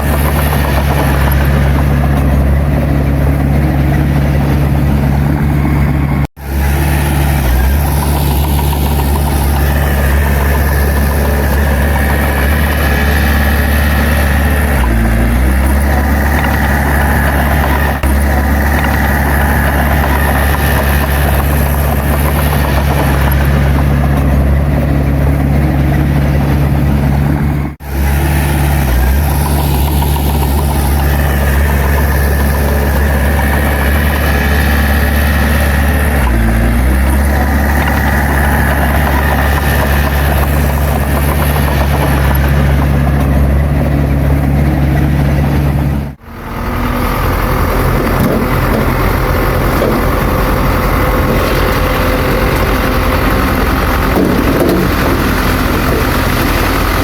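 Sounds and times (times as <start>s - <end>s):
bulldozer diesel engine: 0.0s - 57.0s.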